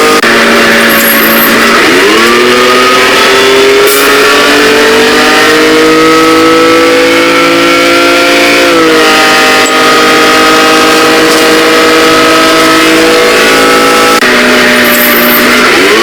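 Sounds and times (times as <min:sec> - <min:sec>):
vehicle engine accelerating: 0:00.0 - 0:16.0.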